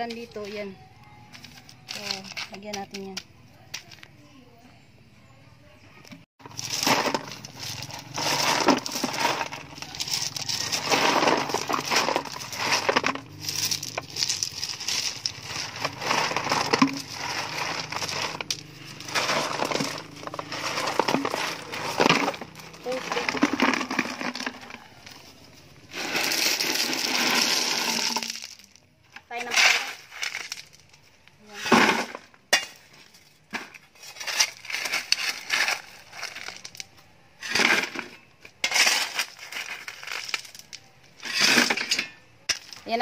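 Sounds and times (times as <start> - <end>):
stones clattering as poured: 6.4 - 25.3, 25.9 - 28.8, 29.4 - 42.9.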